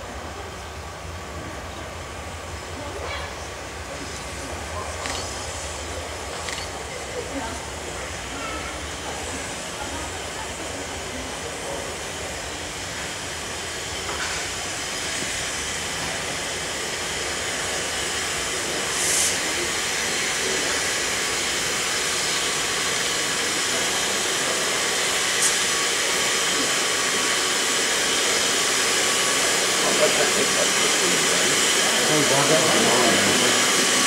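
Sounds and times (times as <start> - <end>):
steam locomotive hissing: 0.0 - 34.0.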